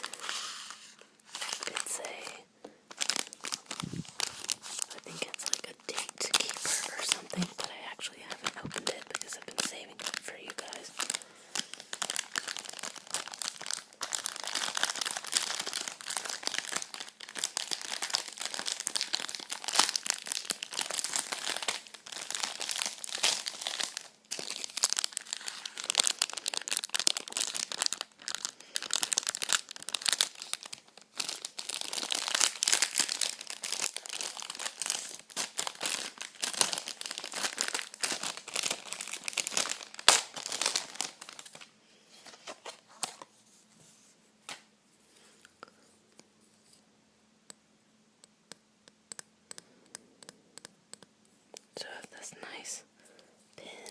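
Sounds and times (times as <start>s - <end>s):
plastic packaging crinkling: 0.0s - 43.6s.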